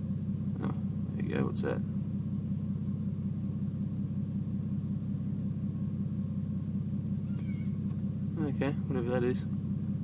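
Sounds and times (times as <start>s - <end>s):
car engine running steadily: 0.0s - 10.0s.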